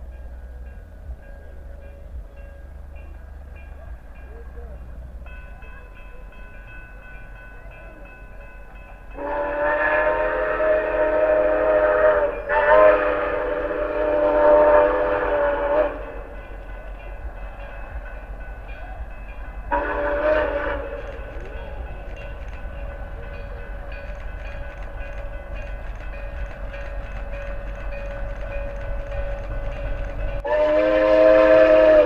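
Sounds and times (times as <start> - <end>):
steam locomotive chime whistle: 0.0 - 32.0.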